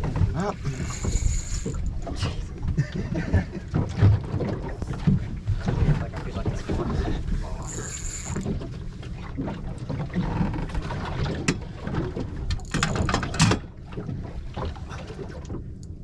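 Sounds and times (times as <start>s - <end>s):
water and hull noise: 0.0s - 16.0s.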